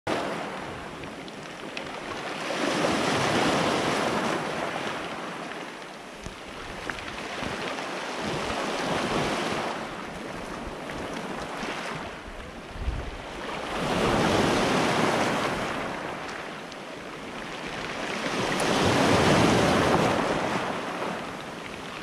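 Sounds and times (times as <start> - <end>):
waves on pebble beach: 0.1 - 22.0.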